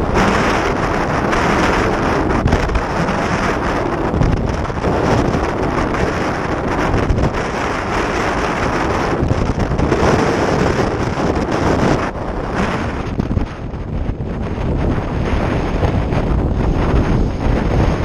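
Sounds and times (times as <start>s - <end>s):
waves splashing: 0.0s - 18.0s
wind noise on microphone: 0.0s - 18.0s.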